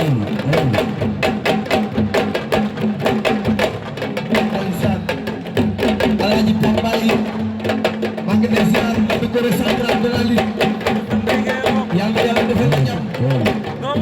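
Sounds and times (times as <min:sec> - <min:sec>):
fast hand drumming: 0:00.0 - 0:14.0.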